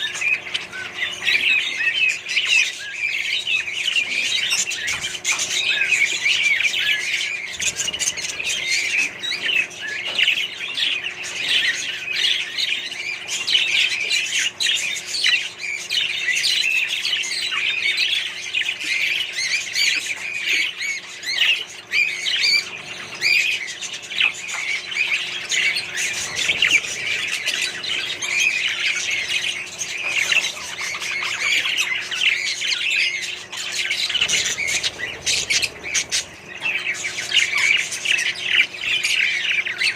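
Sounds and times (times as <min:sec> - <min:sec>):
parrots chattering and squawking: 0:00.0 - 0:39.9.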